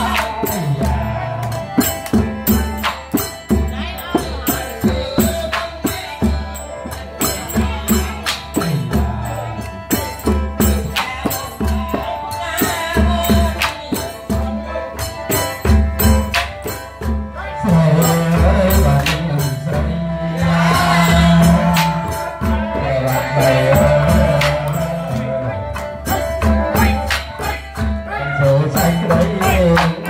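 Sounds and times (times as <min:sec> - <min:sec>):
drum beat: 0:00.0 - 0:30.0
people singing through microphones: 0:00.0 - 0:30.0.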